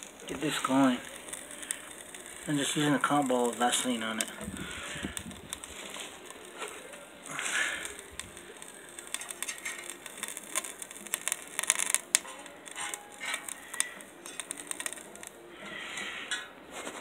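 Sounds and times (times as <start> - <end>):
small clicks: 0.0 - 15.4.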